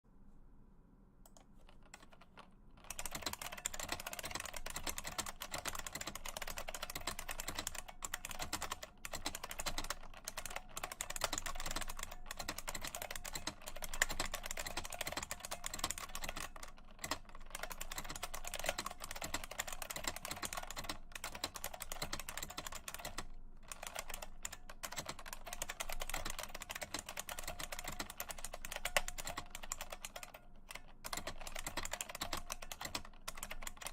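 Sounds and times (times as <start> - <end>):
keyboard typing clacks: 1.2 - 33.9.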